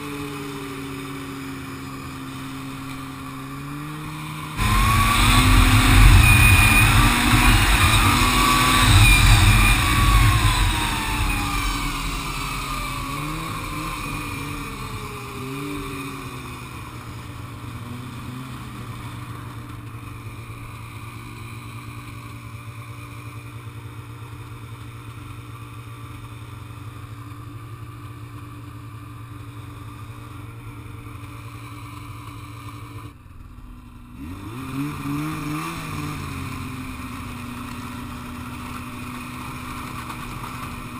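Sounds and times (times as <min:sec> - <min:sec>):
snowmobile engine: 0:00.0 - 0:40.9.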